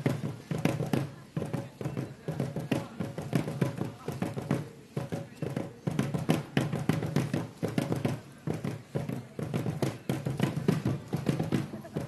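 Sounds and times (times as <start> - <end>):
clacking percussion beat: 0.0 - 12.0.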